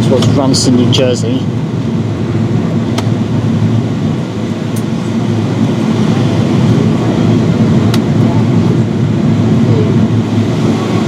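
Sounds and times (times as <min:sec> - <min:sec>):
aircraft cabin roar: 0:00.0 - 0:11.0.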